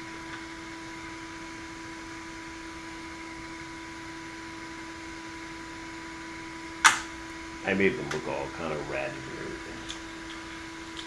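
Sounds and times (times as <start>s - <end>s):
steady background hum and hiss: 0.0s - 11.0s.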